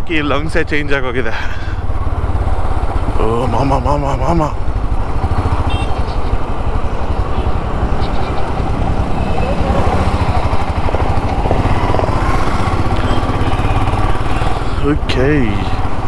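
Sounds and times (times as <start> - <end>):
motorcycle engine running: 1.7 - 16.0.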